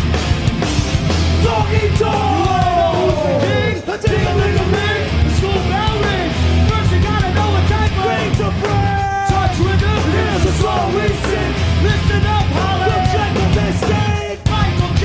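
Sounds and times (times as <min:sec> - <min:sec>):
rap-rock band playing: 0:00.0 - 0:15.0
yelled vocals: 0:01.0 - 0:15.0.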